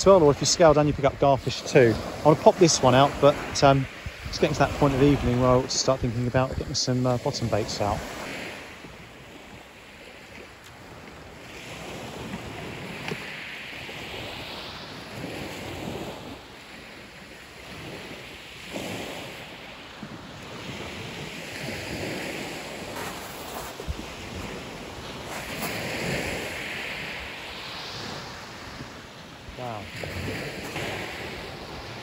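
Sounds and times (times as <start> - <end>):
waves washing up shingle: 0.0 - 32.0
wind on microphone: 0.0 - 32.0.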